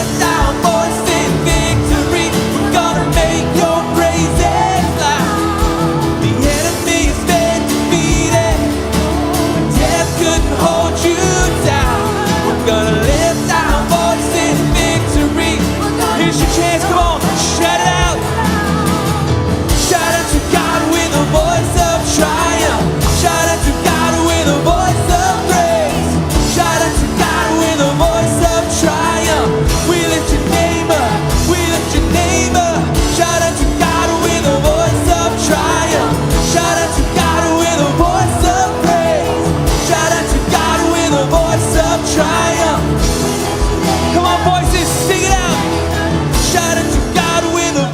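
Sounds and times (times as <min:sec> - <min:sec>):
band playing upbeat song: 0:00.0 - 0:47.9
people singing: 0:00.0 - 0:47.9.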